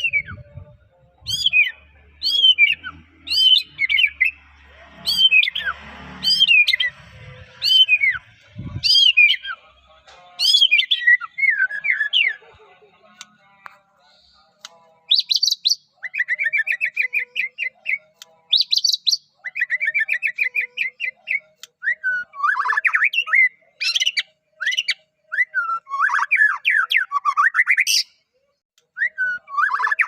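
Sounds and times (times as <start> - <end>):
bird singing downward phrases: 0.0 - 13.4, 15.1 - 28.2, 29.0 - 30.0.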